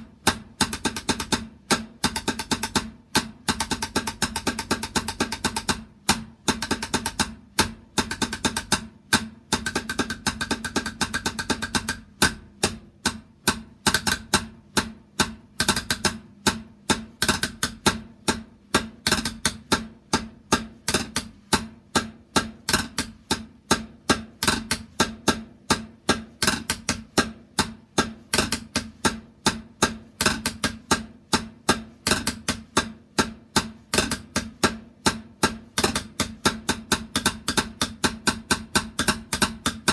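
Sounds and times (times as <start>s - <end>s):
hand drum strikes: 0.0s - 39.9s.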